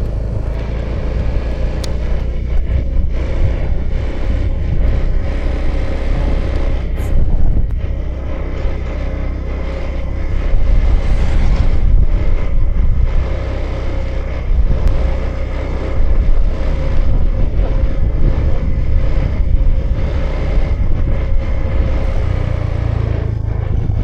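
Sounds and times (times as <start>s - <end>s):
faint steady whine: 0.0s - 24.0s
scooter engine running: 0.0s - 24.0s
wind and road noise rumble: 0.0s - 24.0s.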